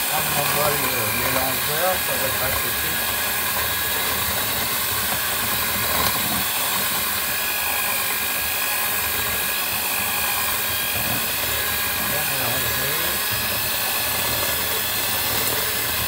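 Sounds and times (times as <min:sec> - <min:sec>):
electric hand mixer running: 0:00.0 - 0:16.0.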